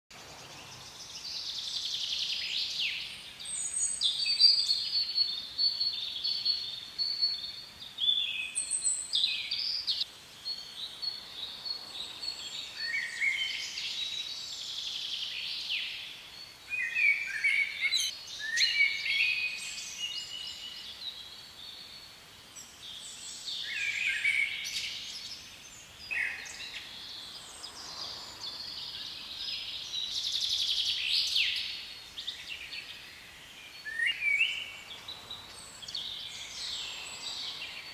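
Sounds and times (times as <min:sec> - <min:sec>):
faint outdoor hiss: 0:00.1 - 0:37.9
songbirds chirping: 0:00.1 - 0:37.9.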